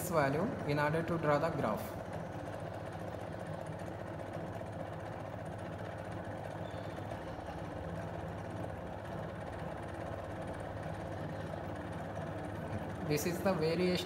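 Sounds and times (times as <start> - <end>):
motor mechanical hum: 0.0 - 14.0.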